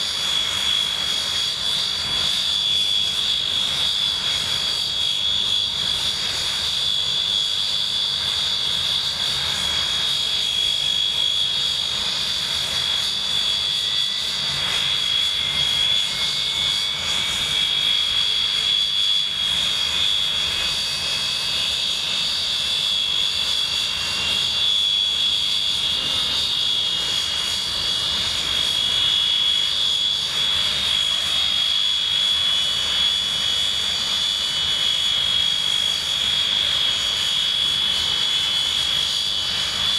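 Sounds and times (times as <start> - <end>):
jet engines idling whine: 0.0 - 39.9.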